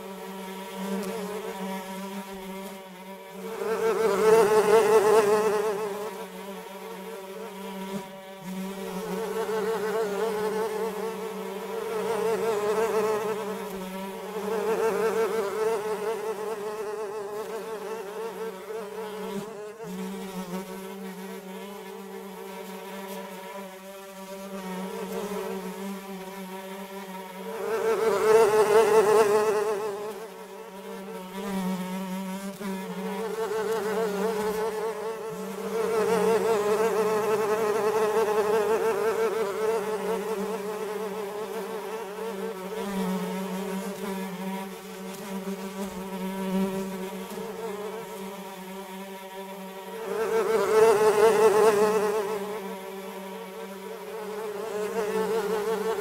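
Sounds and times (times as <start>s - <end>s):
flies buzzing: 0.0s - 56.0s.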